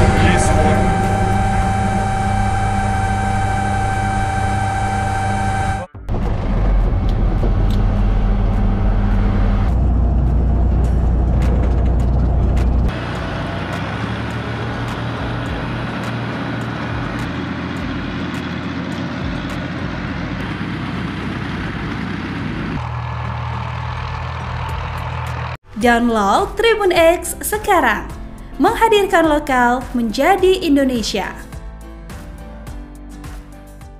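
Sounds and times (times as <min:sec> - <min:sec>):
tracked vehicle engine running: 0:00.0 - 0:30.9.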